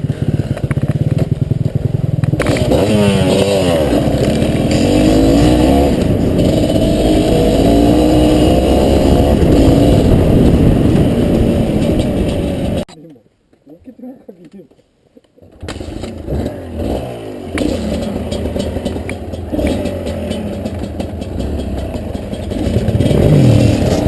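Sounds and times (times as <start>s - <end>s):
dirt bike engine revving: 0.0s - 12.9s, 15.6s - 24.0s.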